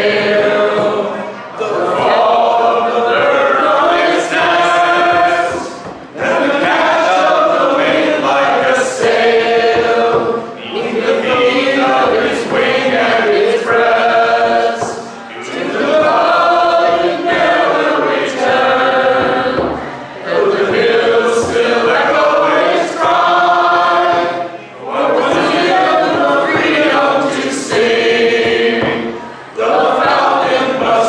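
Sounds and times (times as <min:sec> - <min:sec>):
people singing a cappella: 0:00.0 - 0:31.0.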